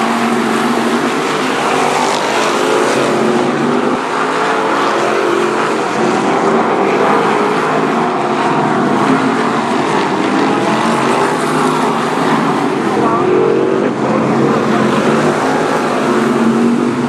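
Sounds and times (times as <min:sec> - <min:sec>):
race car engines roaring past: 0:00.0 - 0:17.0.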